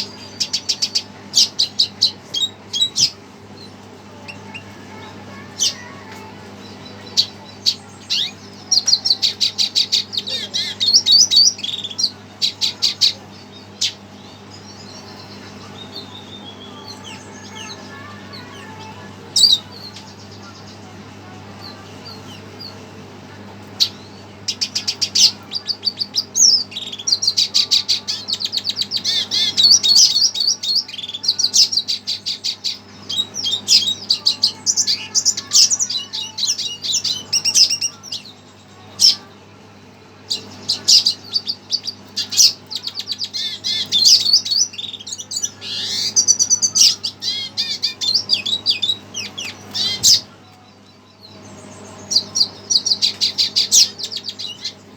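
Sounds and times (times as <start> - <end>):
bird singing trills and chirps: 0.0 - 54.9
faint steady hum: 0.0 - 54.9.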